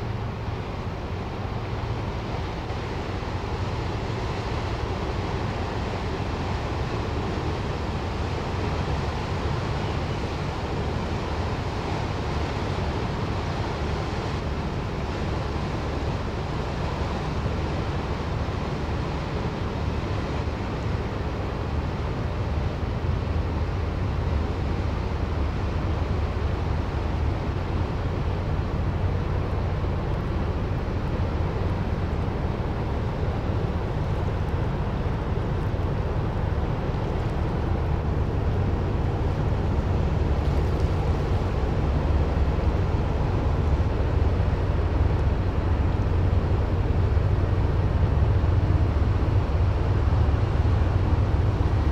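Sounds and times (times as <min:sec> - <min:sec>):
ship engine rumble: 0:00.0 - 0:51.9.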